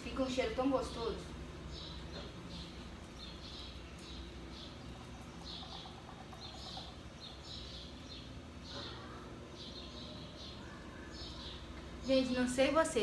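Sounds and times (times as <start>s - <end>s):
low steady hum: 0.0s - 13.0s
bird chirping: 0.8s - 13.0s.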